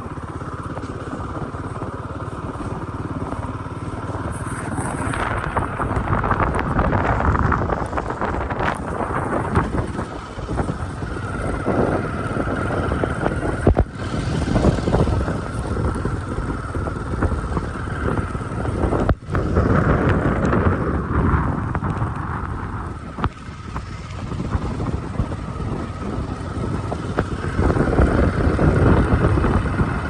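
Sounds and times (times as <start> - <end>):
moving vehicle rumble: 0.0 - 30.0
wind buffeting microphone: 0.0 - 30.0.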